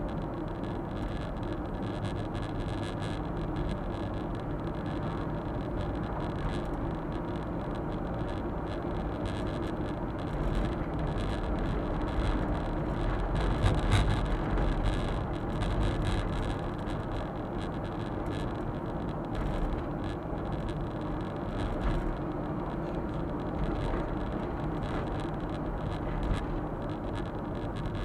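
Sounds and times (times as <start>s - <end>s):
truck engine and tyre road noise: 0.0s - 28.0s.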